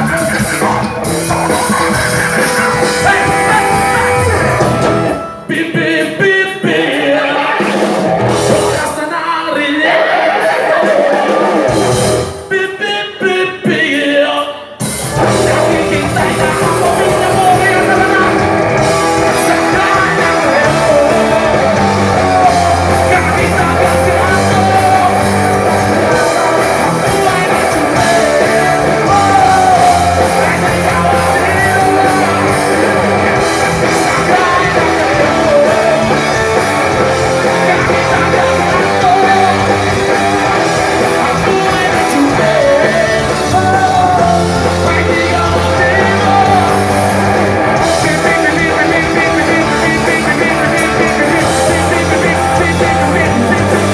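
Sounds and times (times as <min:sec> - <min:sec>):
person singing: 0:00.0 - 0:11.8, 0:12.5 - 0:53.9
live rock band playing: 0:00.0 - 0:13.9, 0:14.6 - 0:53.9.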